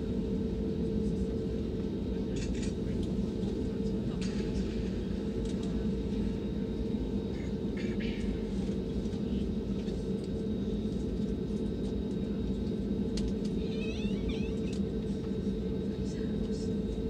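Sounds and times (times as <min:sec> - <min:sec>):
airplane cabin rumble: 0:00.0 - 0:17.0
jet engines low hum: 0:00.0 - 0:17.0.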